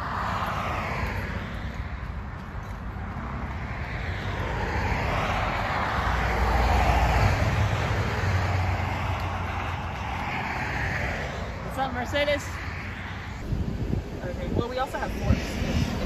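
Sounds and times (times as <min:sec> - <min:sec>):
highway traffic passing: 0:00.0 - 0:16.0.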